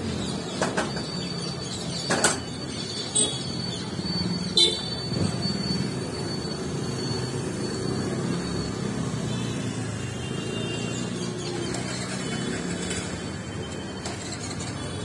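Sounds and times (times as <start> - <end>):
passing traffic hum: 0.0 - 15.0.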